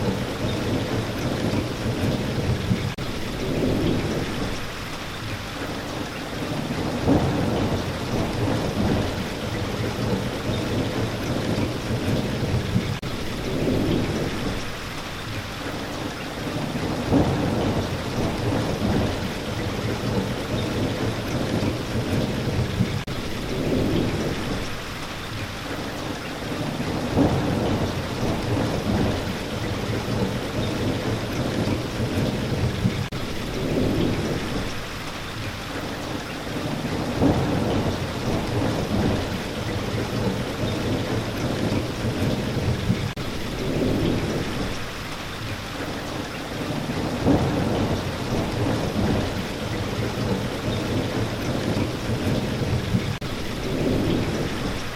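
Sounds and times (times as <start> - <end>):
rolls of thunder: 0.0 - 4.7, 5.9 - 14.7, 16.4 - 24.7, 26.4 - 34.8, 36.5 - 44.9, 46.6 - 54.9
steady rain falling: 0.0 - 54.9.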